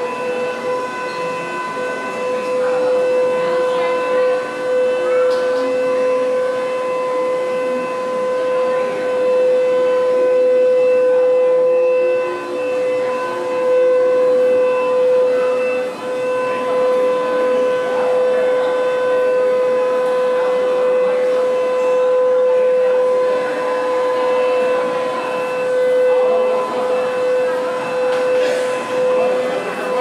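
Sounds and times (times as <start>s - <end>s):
low running noise: 0.0s - 30.0s
monorail electric whine: 0.0s - 30.0s.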